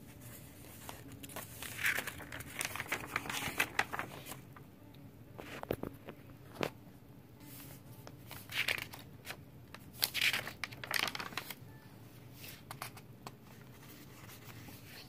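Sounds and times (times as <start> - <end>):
paper pages rustling: 0.0 - 4.6, 5.4 - 6.8, 7.4 - 11.6, 12.3 - 15.0.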